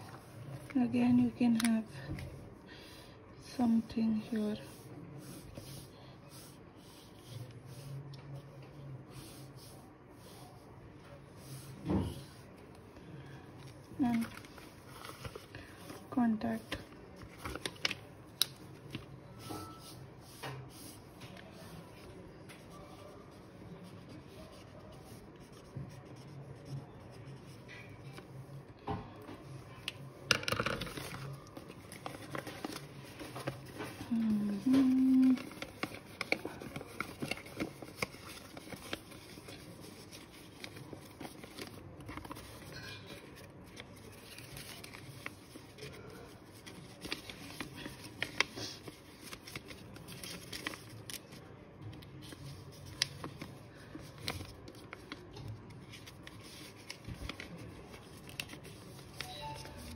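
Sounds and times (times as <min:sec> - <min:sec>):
paper rustling and crinkling: 0:03.5 - 0:28.5, 0:29.2 - 0:59.9.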